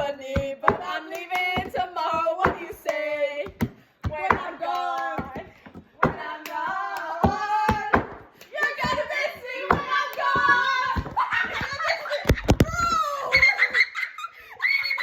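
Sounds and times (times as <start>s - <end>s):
hand claps and slaps: 0.0s - 13.0s
girls singing together: 0.0s - 13.7s.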